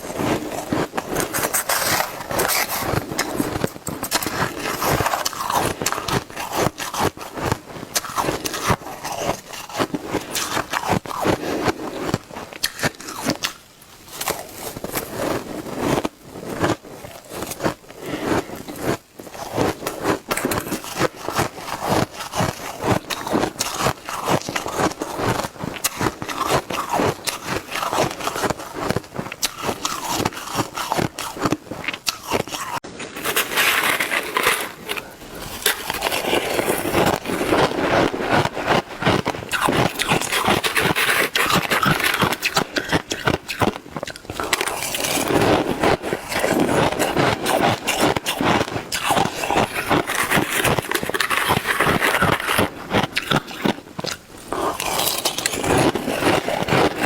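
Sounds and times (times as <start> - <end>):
ice being chewed and crunched: 0.0 - 57.0.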